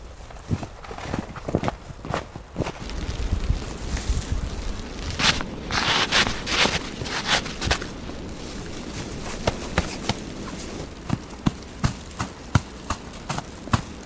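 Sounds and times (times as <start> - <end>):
steady hiss: 2.6 - 14.0.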